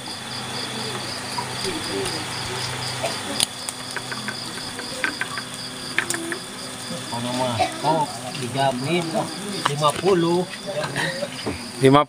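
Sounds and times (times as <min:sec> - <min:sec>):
crickets chirping: 0:00.0 - 0:12.0
steady high trill: 0:00.0 - 0:12.0.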